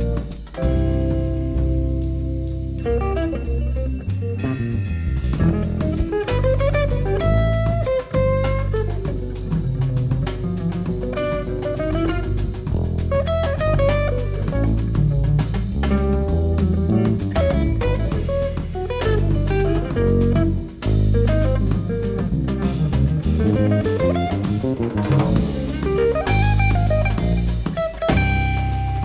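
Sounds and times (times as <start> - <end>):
busy drum kit: 0.0 - 29.0
low bass notes: 0.0 - 29.0.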